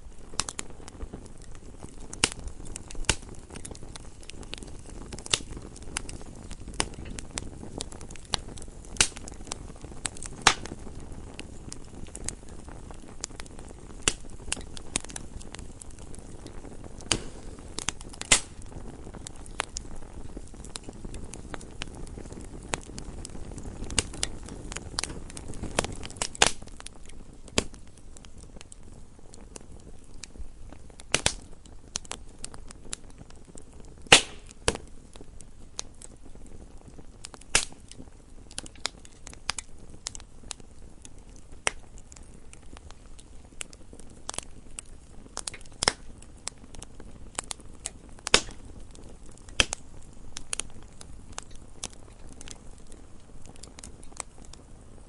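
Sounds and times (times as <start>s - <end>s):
fire crackles and pops: 0.0s - 55.0s
low rumble of flames: 0.0s - 55.0s.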